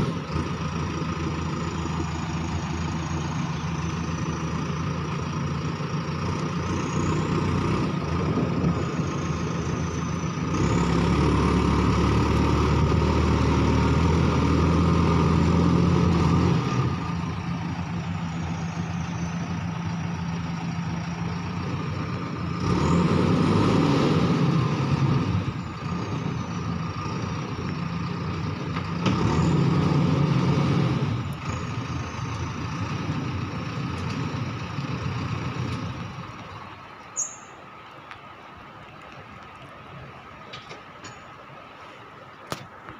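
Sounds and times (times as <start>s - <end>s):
diesel engine revving: 0.0s - 37.0s.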